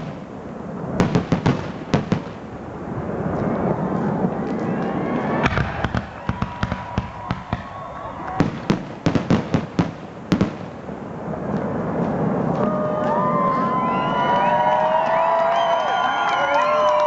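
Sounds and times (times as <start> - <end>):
fireworks bangs and crackling: 0.0 - 16.2.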